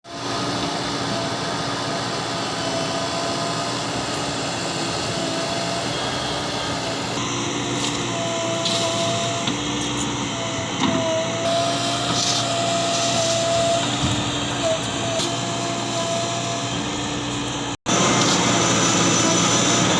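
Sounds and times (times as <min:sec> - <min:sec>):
diesel engine running: 0:00.0 - 0:19.9
steady whine: 0:00.1 - 0:19.9.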